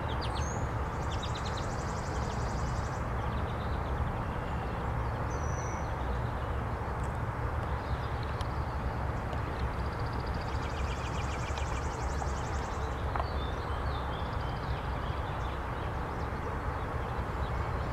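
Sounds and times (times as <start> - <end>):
outdoor background rumble: 0.0 - 17.9.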